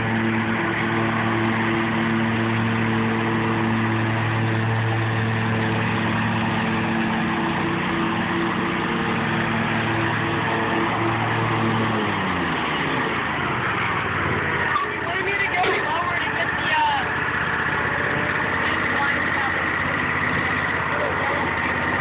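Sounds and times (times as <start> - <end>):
mower engine running: 0.0 - 22.0.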